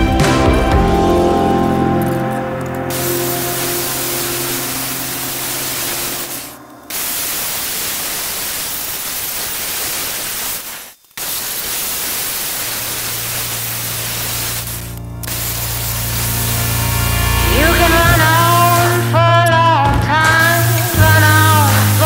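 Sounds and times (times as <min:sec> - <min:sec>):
angle grinder cutting steel: 0:01.1 - 0:09.9, 0:10.5 - 0:22.0.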